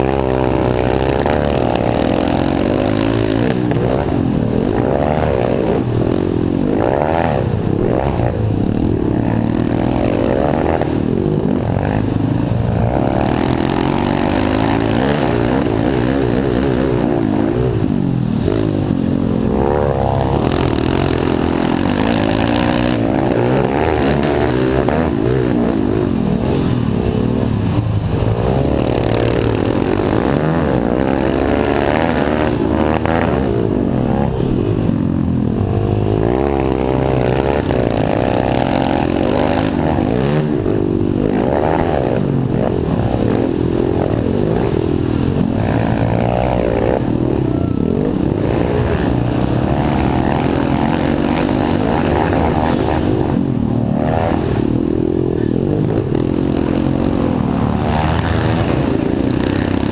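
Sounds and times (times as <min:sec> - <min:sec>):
dirt bike engine revving: 0:00.0 - 0:59.9
wind rush: 0:00.0 - 0:59.9.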